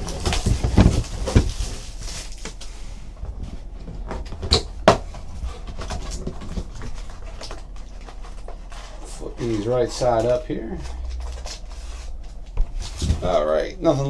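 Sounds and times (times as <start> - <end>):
dull knocks: 0.0 - 13.9
cardboard and wrappers rustling: 0.0 - 14.0.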